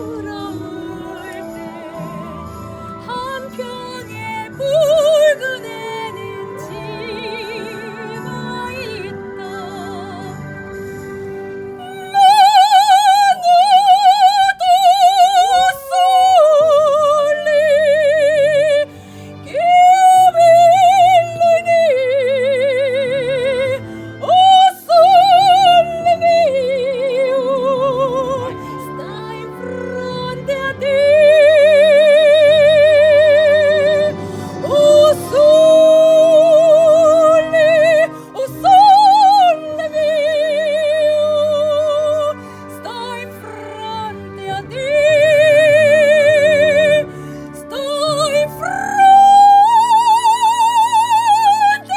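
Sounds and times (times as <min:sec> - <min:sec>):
instrumental accompaniment: 0:00.0 - 0:51.9
soprano singing: 0:00.0 - 0:51.9.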